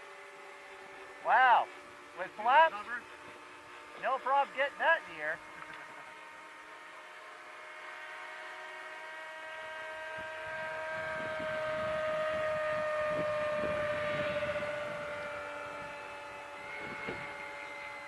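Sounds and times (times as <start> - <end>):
model airplane motors whining: 0.0 - 18.0.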